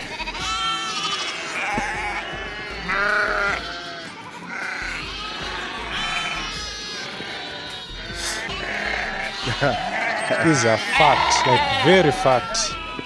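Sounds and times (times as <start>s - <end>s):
sheep and goats bleating: 0.0s - 13.0s.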